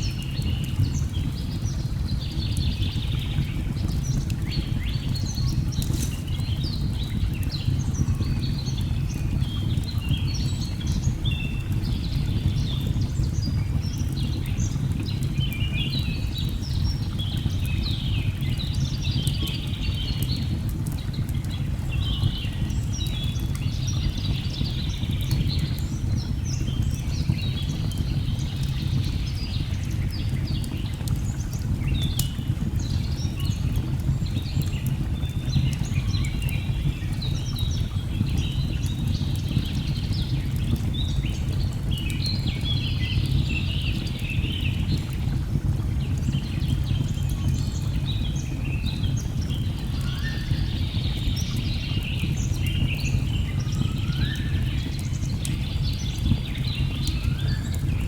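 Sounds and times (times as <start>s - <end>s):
rush of falling water: 0.0s - 58.0s
fire crackling: 0.1s - 21.9s, 25.1s - 58.0s.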